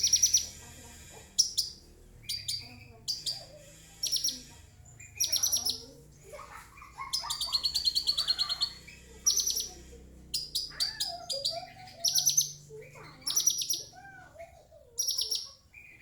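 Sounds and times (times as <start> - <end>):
bird chirping trills: 0.0 - 16.0.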